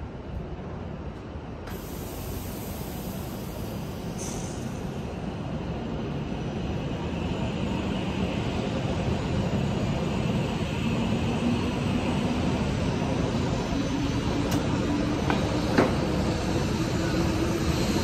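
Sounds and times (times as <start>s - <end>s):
train rushing noise: 0.0s - 18.0s.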